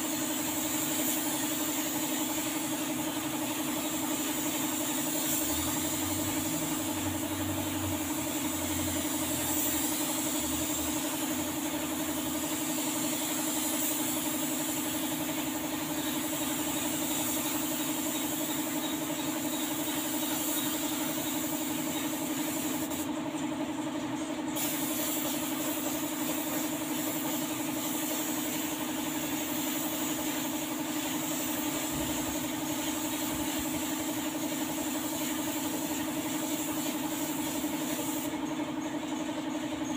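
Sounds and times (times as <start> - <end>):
spray gun hissing: 0.0 - 23.1, 24.6 - 38.4
air compressor humming: 0.0 - 39.9.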